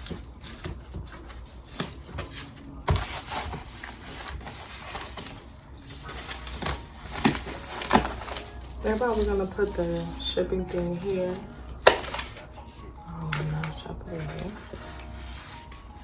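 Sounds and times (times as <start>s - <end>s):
packaging rustling and rubbing: 0.0s - 16.0s.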